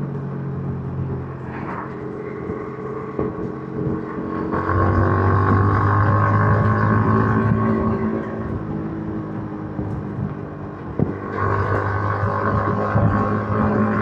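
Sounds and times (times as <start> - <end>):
motorcycle engine while riding: 0.0 - 14.0.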